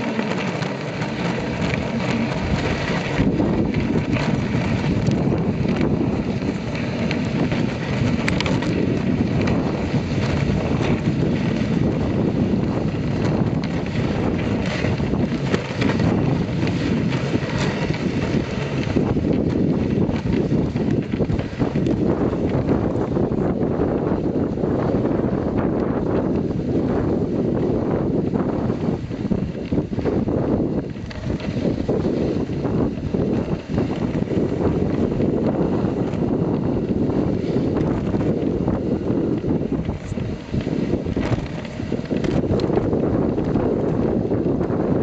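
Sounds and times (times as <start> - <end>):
sled sliding over snow: 0.0 - 45.0
wind buffeting microphone: 0.0 - 45.0.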